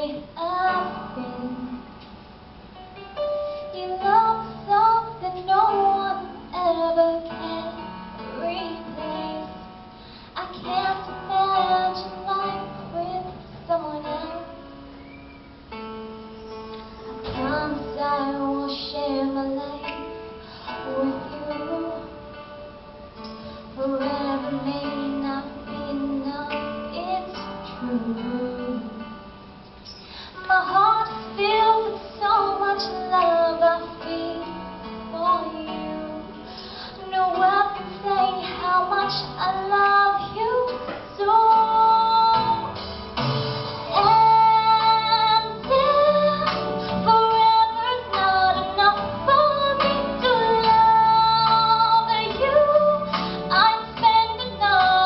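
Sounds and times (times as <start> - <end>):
woman singing into a microphone: 0.0 - 2.2, 3.5 - 15.7, 17.0 - 55.0
instrumental accompaniment: 0.0 - 55.0.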